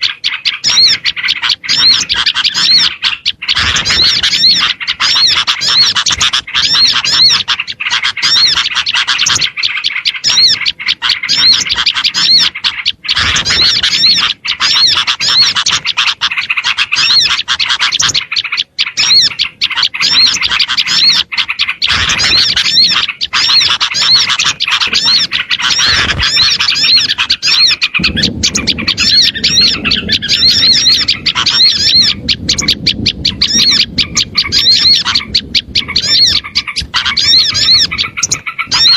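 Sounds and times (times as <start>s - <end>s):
songbirds chirping: 0.0s - 38.9s
low background rumble: 1.0s - 38.9s.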